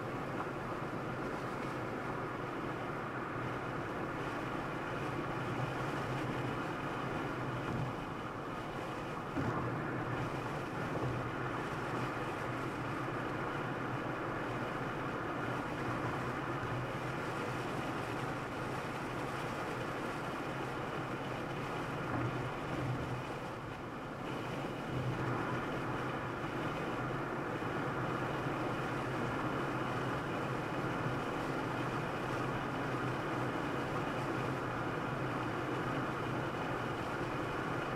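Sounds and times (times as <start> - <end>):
car road and engine noise: 0.0 - 37.9.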